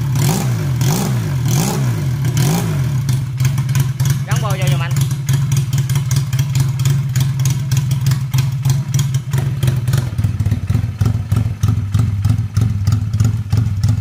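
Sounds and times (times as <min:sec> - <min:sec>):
motorcycle engine puttering: 0:00.0 - 0:14.0.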